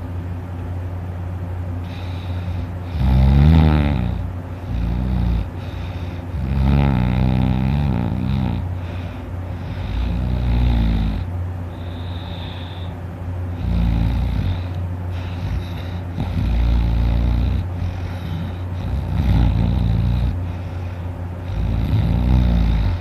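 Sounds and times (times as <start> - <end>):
man snoring: 1.8 - 12.9, 13.6 - 23.0.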